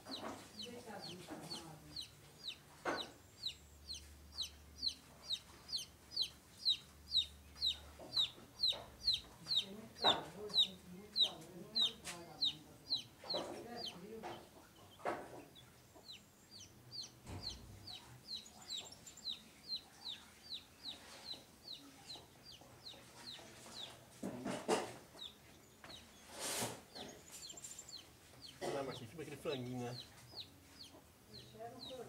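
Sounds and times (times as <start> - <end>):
chick peeping: 0.0 - 32.0.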